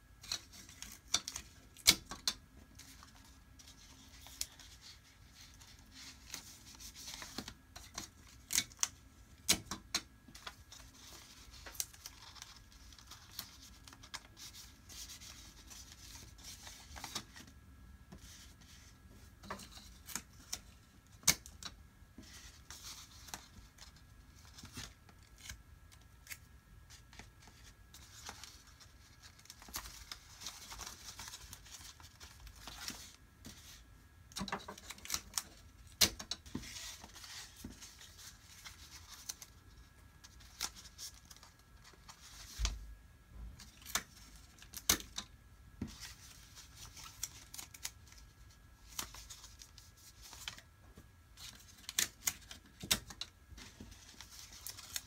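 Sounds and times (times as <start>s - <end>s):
paper rustling and crinkling: 0.2s - 17.5s, 18.1s - 42.8s, 43.6s - 55.0s.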